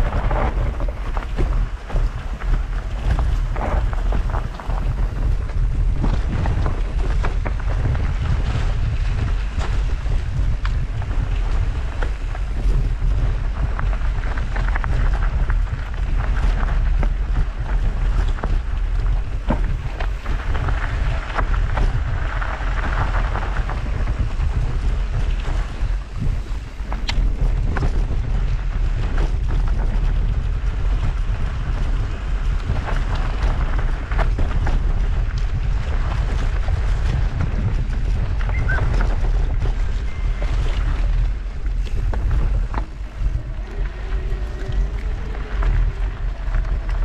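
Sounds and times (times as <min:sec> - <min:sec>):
low rumble: 0:00.0 - 0:47.0
mountain bike rattling on dirt: 0:00.0 - 0:47.0
wind buffeting microphone: 0:00.0 - 0:47.0.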